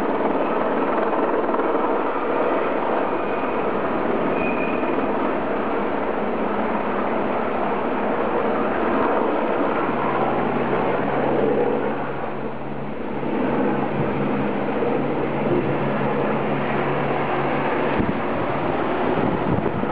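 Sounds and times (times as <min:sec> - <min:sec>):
wind rumble on microphone: 0:00.0 - 0:19.9.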